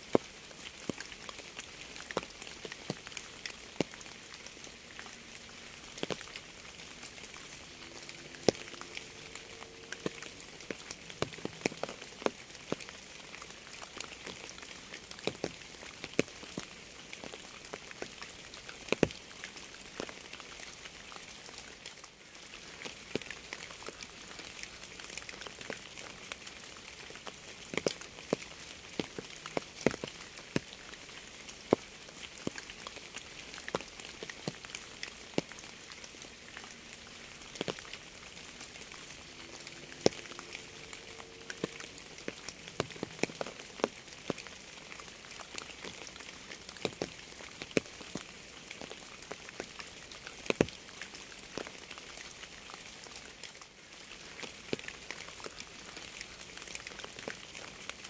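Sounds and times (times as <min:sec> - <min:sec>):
rain hiss: 0:00.0 - 0:58.0
raindrops ticking: 0:00.0 - 0:58.0.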